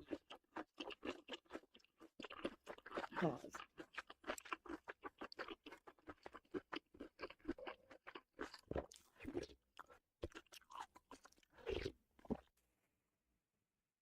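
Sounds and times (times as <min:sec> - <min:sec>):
person chewing crunchy food: 0:00.0 - 0:12.5.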